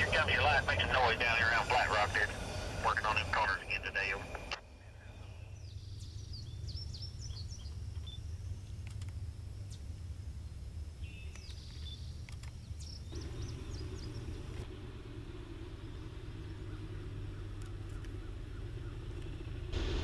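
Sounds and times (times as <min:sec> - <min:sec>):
birds chirping: 0:00.0 - 0:19.7
distant diesel train engine drone: 0:00.0 - 0:20.0
steady low rumble: 0:00.0 - 0:20.0.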